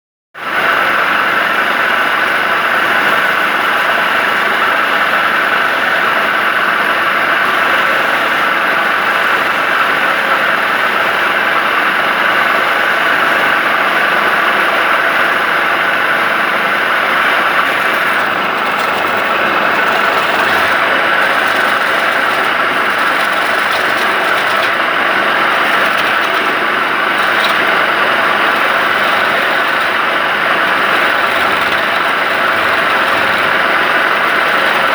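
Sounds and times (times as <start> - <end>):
woodturning lathe running: 0.6 - 34.9.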